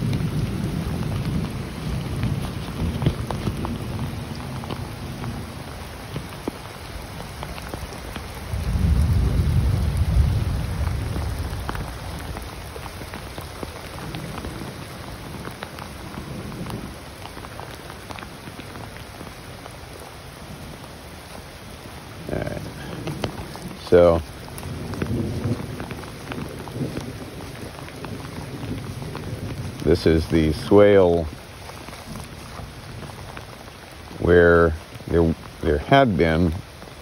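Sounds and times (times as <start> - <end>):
raindrop ticks: 0.0 - 37.0
steady rain falling: 0.0 - 37.0.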